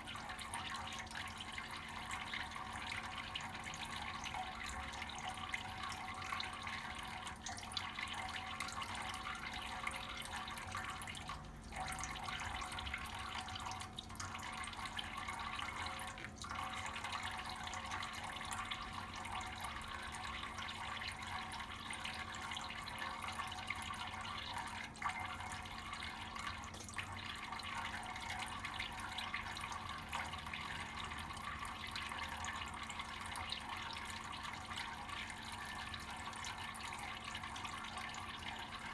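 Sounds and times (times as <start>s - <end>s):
tap water running into sink: 0.1s - 38.9s.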